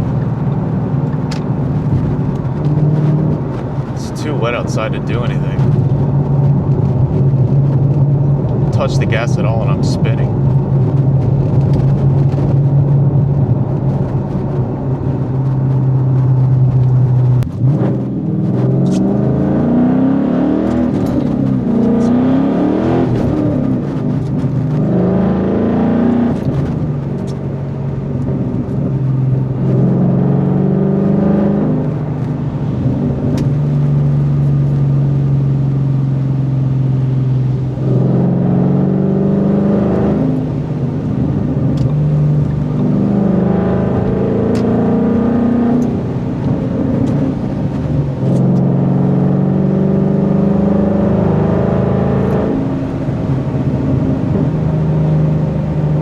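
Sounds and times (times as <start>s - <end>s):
car engine and exhaust revving: 0.0s - 56.0s.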